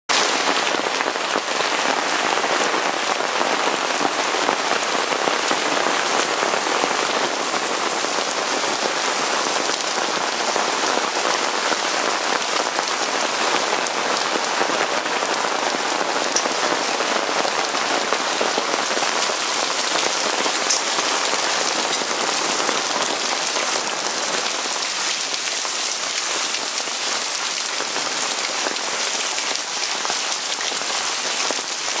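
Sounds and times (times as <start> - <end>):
hailstones striking the ground: 0.1 - 32.0.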